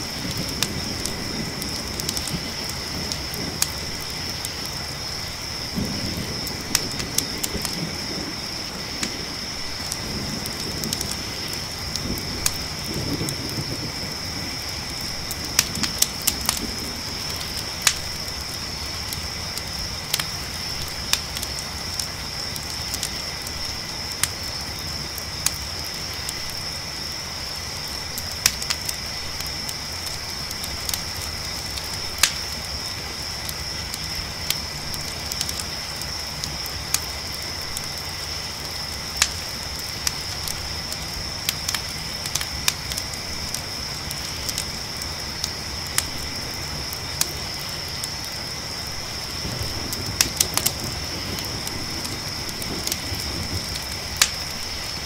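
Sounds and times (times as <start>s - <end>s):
campfire crackling and popping: 0.0s - 55.0s
crickets chirring: 0.0s - 55.0s.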